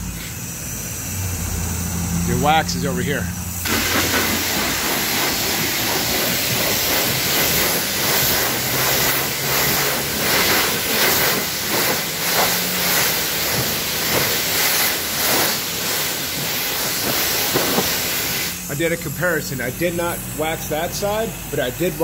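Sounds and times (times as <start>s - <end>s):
water spraying on car: 0.2s - 22.0s.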